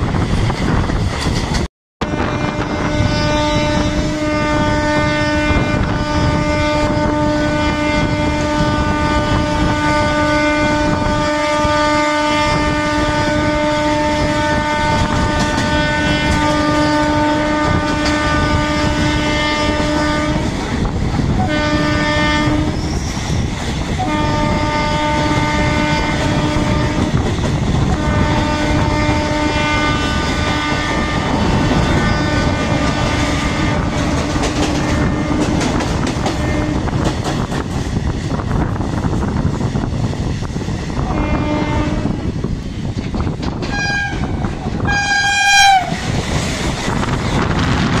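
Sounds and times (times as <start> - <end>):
train rumble and rail clatter: 0.0 - 48.0
wind rushing: 0.0 - 48.0
train horn blaring: 2.0 - 37.4, 41.0 - 42.6, 43.6 - 48.0.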